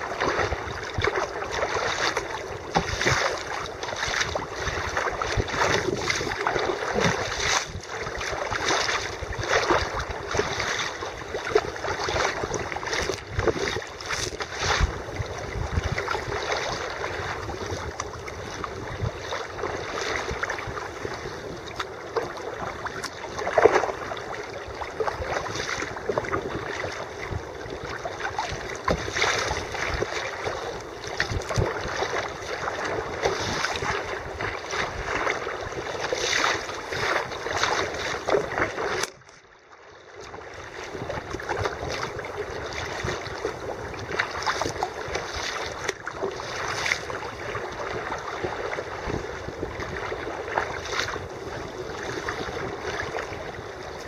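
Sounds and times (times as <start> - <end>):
wind on microphone: 0.0 - 39.2, 40.5 - 54.0
paddle stroke splashes: 0.0 - 54.0
water sloshing against kayak hull: 0.0 - 54.0.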